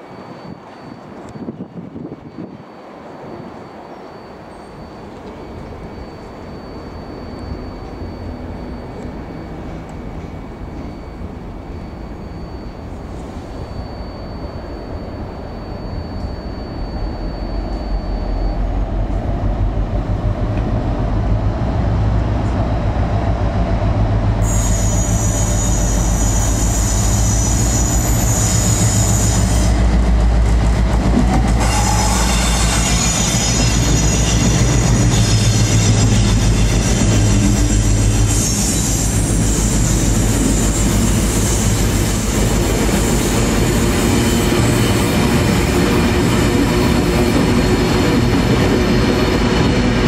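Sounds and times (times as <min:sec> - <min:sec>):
high-pitched metallic squeal: 0:00.0 - 0:21.8, 0:24.3 - 0:30.4, 0:31.3 - 0:50.0
diesel locomotive engine rumble: 0:00.0 - 0:50.0.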